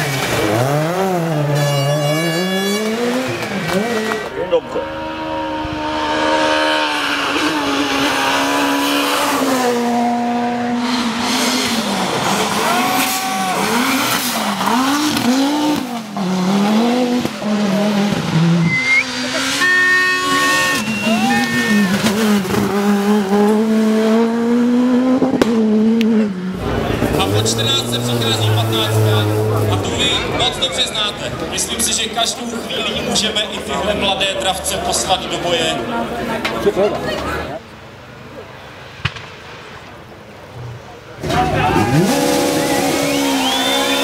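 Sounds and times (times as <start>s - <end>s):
rally car engines revving: 0.0s - 44.0s.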